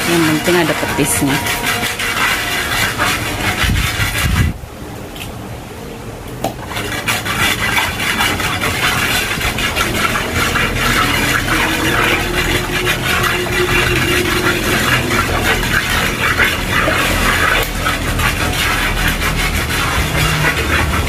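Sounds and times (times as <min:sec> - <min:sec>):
pestle grinding in mortar: 0:00.0 - 0:04.6, 0:06.5 - 0:21.0.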